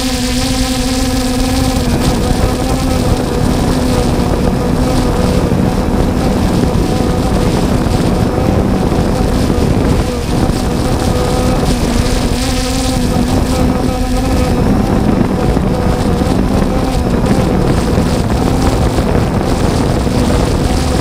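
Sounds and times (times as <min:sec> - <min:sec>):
machinery engine rumble with whine: 0:00.0 - 0:21.0
wind on microphone: 0:00.0 - 0:21.0.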